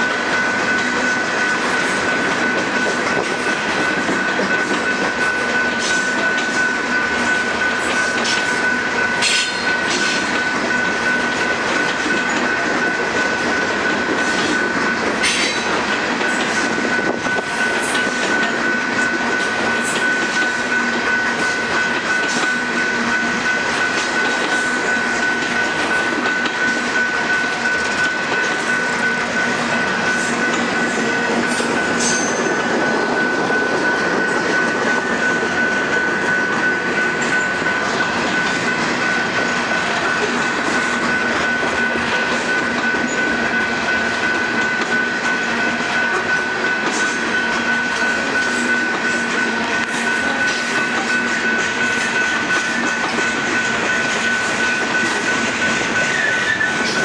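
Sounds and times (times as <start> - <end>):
high-pitched ringing tone: 0.0 - 57.0
train wheels on rails: 0.0 - 57.0.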